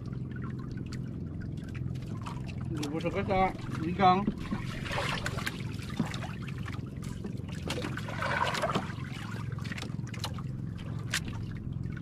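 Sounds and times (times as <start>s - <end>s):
steady low hum: 0.0s - 12.0s
water lapping against a boat hull: 0.0s - 12.0s.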